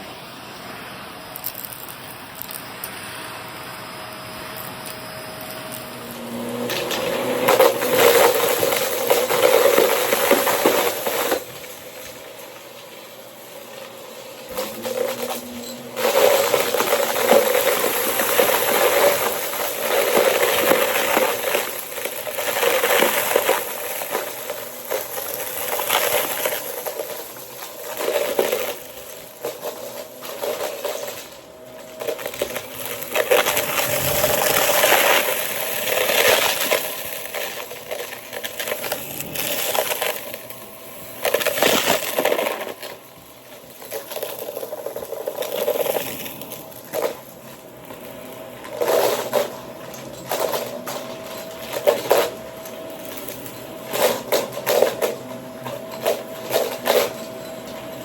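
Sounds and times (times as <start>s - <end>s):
vacuum cleaner running: 0.0s - 58.0s
debris crackling in vacuum: 0.4s - 58.0s.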